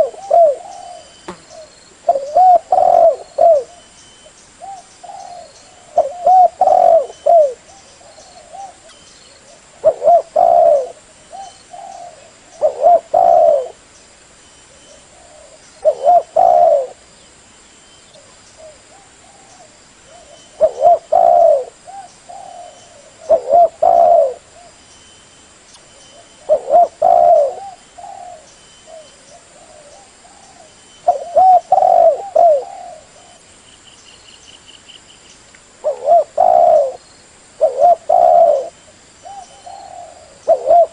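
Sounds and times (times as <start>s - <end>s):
dove cooing: 0.0s - 3.9s, 4.6s - 13.8s, 14.7s - 17.0s, 18.2s - 24.8s, 26.1s - 33.5s, 35.8s - 37.0s, 37.6s - 40.9s.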